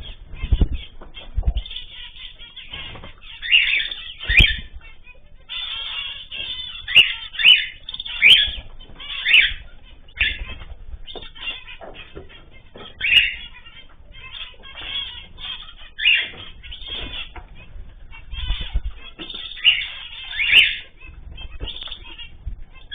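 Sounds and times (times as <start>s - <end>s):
birds chirping: 0.0s - 22.9s
wings flapping: 0.0s - 22.9s.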